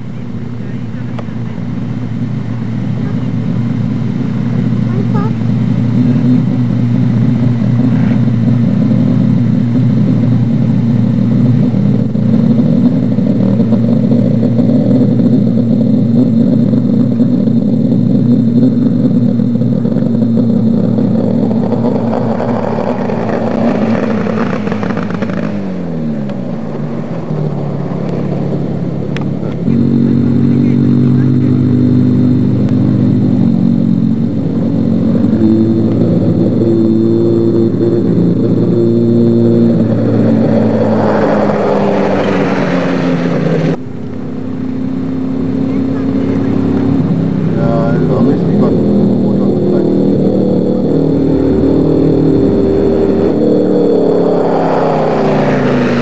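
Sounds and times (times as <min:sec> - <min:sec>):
loud engine note: 0:00.0 - 0:56.0
racing buggy engines: 0:00.0 - 0:56.0.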